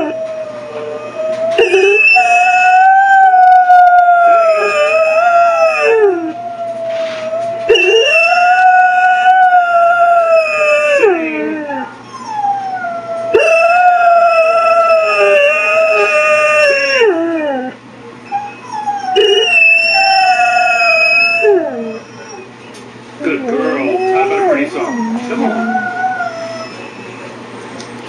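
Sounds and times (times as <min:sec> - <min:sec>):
dog howling: 0:00.0 - 0:22.6, 0:23.2 - 0:27.4
recorded dog howls from speakers: 0:00.0 - 0:22.6, 0:23.2 - 0:27.4.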